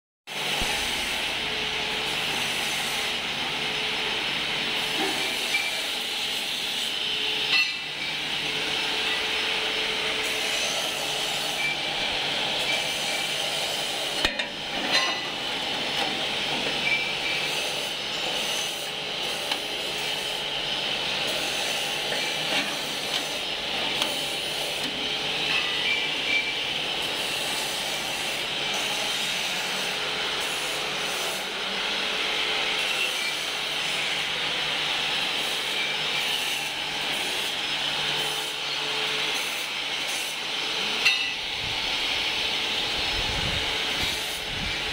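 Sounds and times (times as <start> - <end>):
steady mechanical noise: 0.3 - 44.9.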